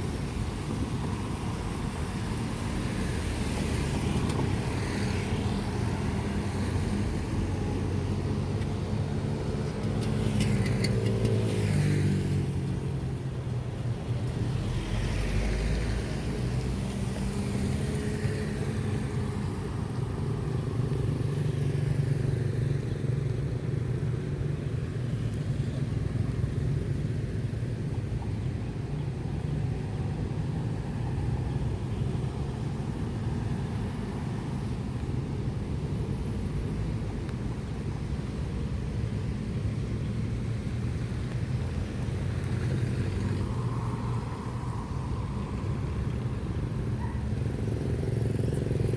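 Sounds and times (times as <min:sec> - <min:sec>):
cars and motorbikes passing: 0:00.0 - 0:48.9.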